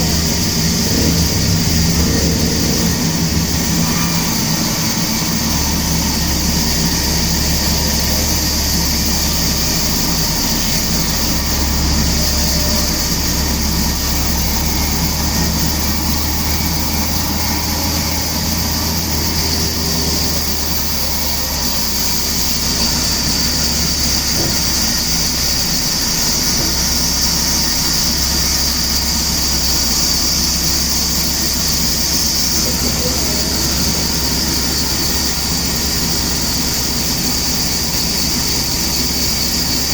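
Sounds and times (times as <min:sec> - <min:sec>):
loud machinery noise: 0:00.0 - 0:39.9.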